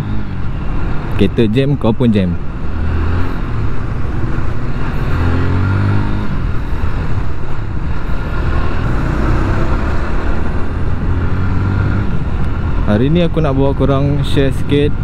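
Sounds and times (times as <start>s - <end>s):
motorcycle engine revving: 0.0s - 1.2s, 2.4s - 15.0s
surrounding traffic: 0.0s - 15.0s
wind and road noise: 0.0s - 15.0s.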